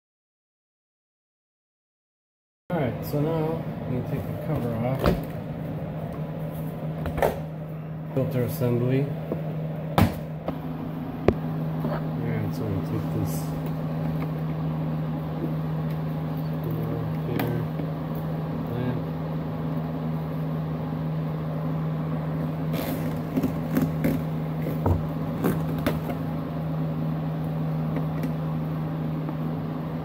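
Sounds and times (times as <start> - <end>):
steady low hum: 2.7 - 30.0.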